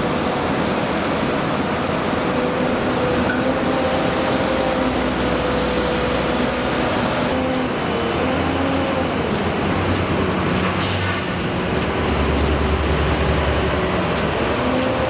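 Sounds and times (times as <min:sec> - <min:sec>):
engine hum: 0:00.0 - 0:15.0.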